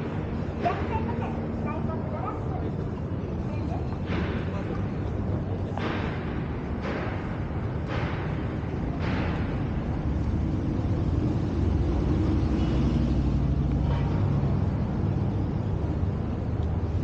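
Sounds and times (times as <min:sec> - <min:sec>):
city street traffic: 0:00.0 - 0:17.0
large vehicle engine running: 0:00.0 - 0:17.0.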